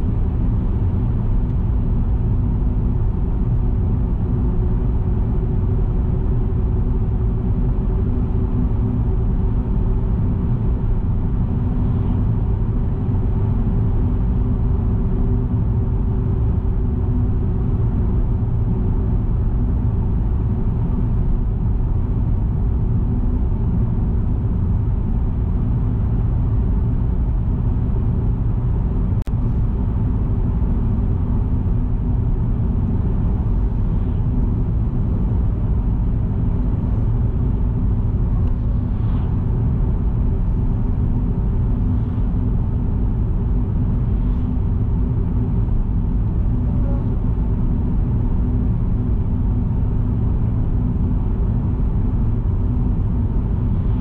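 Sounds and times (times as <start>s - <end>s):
constant hum: 0.0s - 54.0s
moving vehicle rumble: 0.0s - 54.0s.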